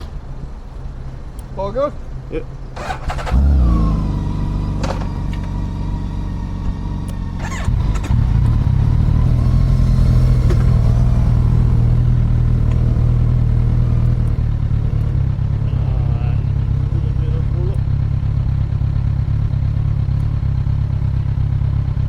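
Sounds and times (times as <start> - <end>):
vehicle engine running: 2.6 - 22.0.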